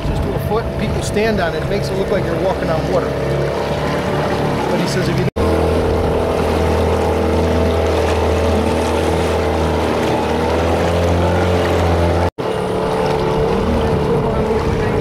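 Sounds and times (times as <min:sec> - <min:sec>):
boat motor humming: 0:00.0 - 0:15.0
water noise: 0:00.0 - 0:15.0
wind: 0:00.0 - 0:15.0.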